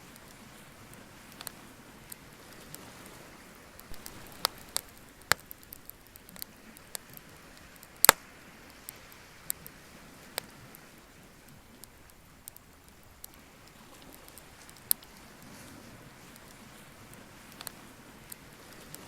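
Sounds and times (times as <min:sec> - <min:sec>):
bonfire crackling and popping: 0:00.0 - 0:19.0
faint steady hiss: 0:00.0 - 0:19.0.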